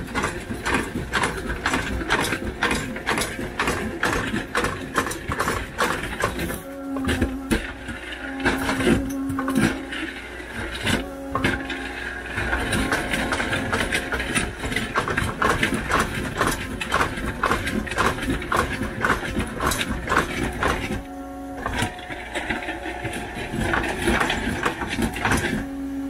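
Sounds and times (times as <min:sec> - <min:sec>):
rhythmic knocking: 0:00.0 - 0:25.8
engine drone: 0:00.0 - 0:26.0.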